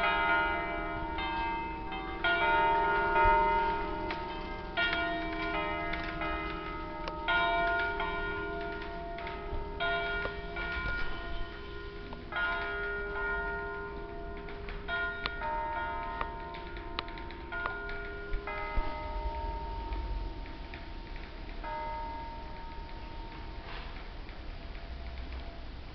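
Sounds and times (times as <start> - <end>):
bells humming: 0.0 - 25.9
church bells ringing: 0.0 - 25.9.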